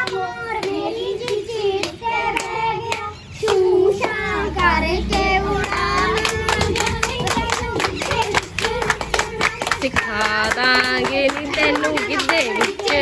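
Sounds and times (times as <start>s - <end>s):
rhythmic hand clapping: 0.0s - 13.0s
women singing: 0.0s - 13.0s.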